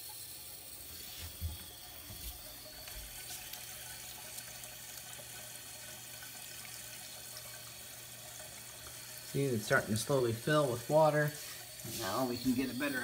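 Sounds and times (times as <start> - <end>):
water hissing into toilet tank: 0.0 - 13.0.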